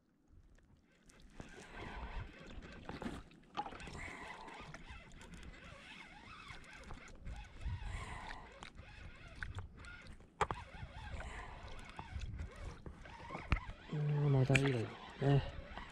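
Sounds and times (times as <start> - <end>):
water sloshing around kayak: 0.2 - 15.9.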